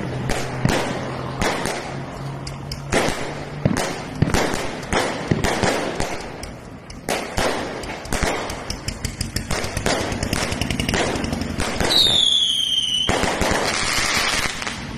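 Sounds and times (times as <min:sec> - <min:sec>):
firecrackers banging and crackling: 0:00.0 - 0:14.9.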